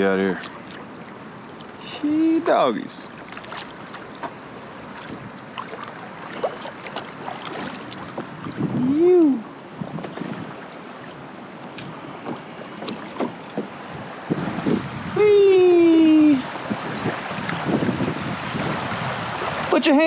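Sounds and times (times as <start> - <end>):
river gurgling and splashing: 0.0 - 20.0.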